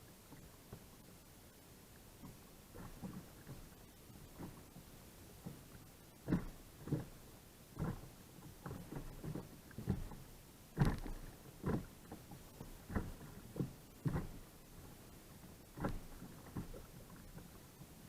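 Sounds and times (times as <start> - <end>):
water splashing at a kayak: 0.0 - 18.0.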